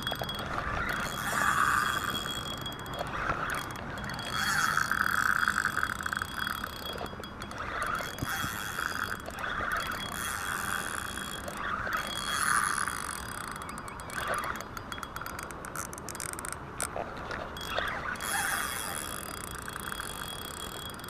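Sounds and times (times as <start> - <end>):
fine rapid clicking: 0.0 - 21.0
fishing reel gears whirring: 0.0 - 21.0.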